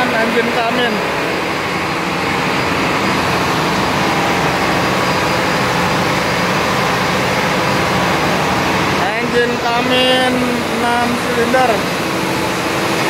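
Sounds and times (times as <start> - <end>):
diesel generator engine drone: 0.0 - 13.0.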